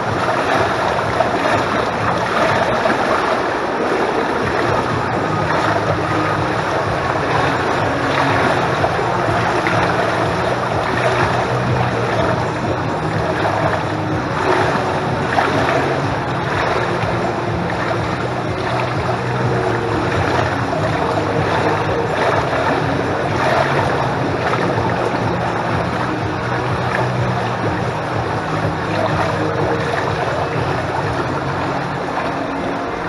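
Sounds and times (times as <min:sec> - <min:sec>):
steady low hum: 0:00.0 - 0:33.0
water lapping against pool edge: 0:00.0 - 0:33.0.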